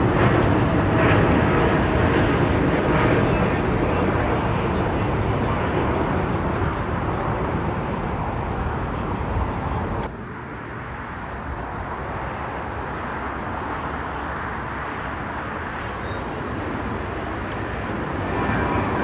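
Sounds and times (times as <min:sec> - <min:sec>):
aircraft roar: 0:00.0 - 0:19.0
road traffic: 0:00.0 - 0:19.0.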